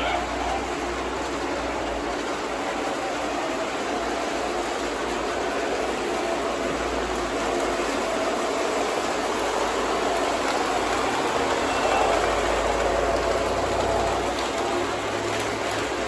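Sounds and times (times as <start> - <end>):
toy trains whirring on rails: 0.0 - 16.0.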